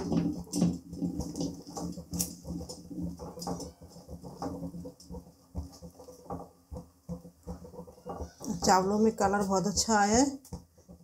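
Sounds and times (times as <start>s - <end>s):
rice bubbling and popping: 0.0s - 11.0s
spatula stirring and scraping: 0.0s - 11.0s.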